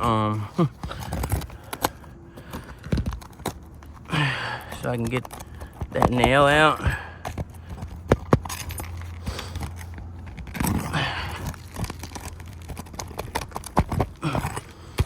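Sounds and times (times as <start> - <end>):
metal tool scraping under shingles: 0.0 - 15.0.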